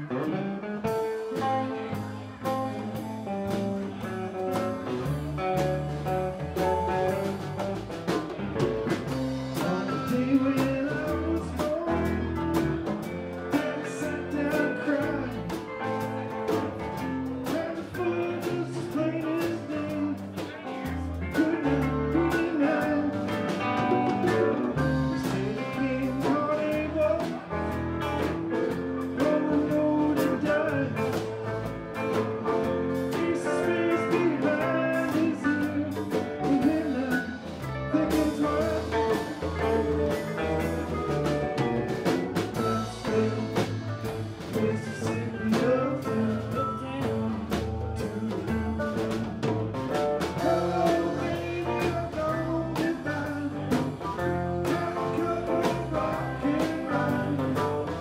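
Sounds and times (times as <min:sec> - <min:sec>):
bass line: 0:00.0 - 0:58.0
electric guitar: 0:00.0 - 0:58.0
drums steady beat: 0:00.1 - 0:58.0.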